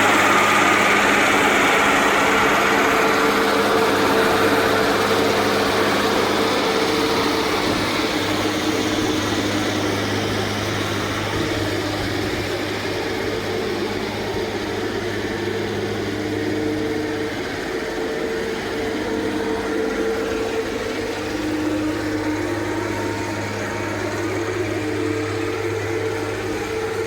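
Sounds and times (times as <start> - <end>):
machine power unit humming: 0.0 - 27.0.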